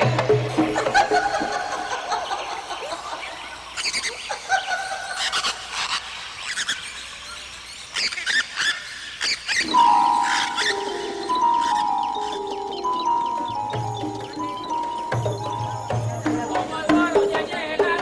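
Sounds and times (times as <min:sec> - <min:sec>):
macaws squawking: 0:00.7 - 0:18.0.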